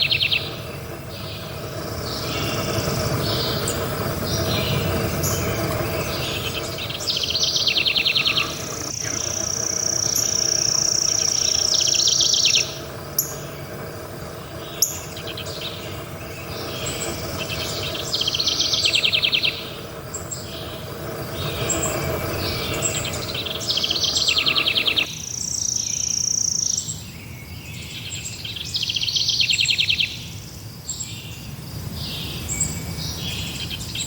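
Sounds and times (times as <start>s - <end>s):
birds chirping trills: 0.0s - 34.0s.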